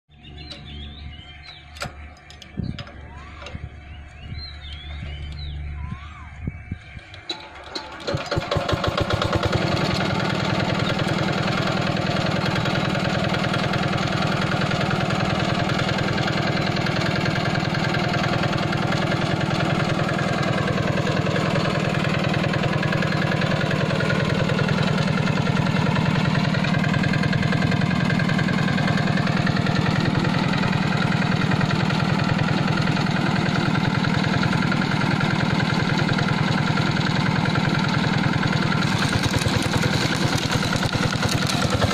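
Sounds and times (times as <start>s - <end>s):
diesel engine running steadily: 0.1s - 41.9s.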